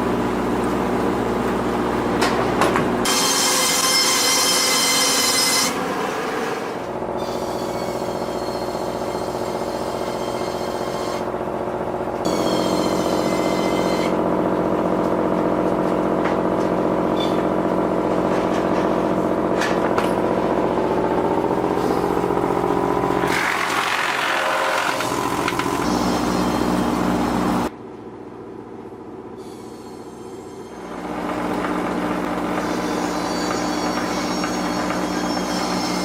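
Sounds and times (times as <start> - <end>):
heavy machine engine running: 0.0 - 27.7, 30.6 - 36.0.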